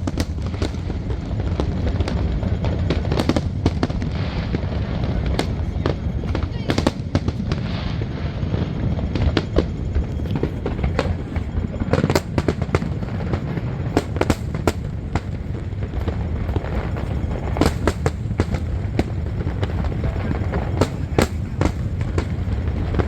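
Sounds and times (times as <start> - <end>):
fireworks bangs: 0.0 - 23.0
steady low rumble: 0.0 - 23.0.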